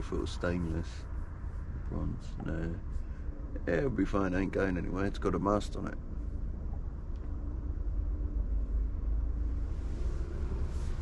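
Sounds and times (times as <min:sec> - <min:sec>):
faint hum: 0:00.0 - 0:11.0
low steady rumble: 0:00.0 - 0:11.0.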